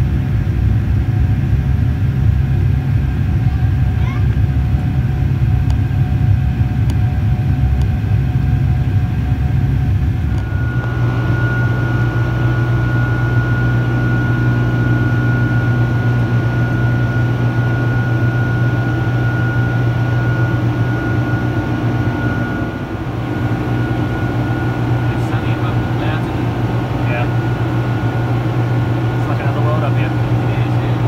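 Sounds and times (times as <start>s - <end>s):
airplane engine and airflow drone: 0.0s - 31.0s
steady high whine: 0.0s - 31.0s.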